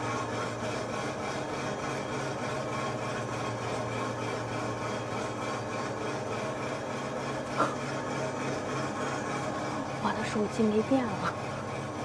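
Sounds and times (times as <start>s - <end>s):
lathe humming and cutting metal: 0.0s - 12.0s.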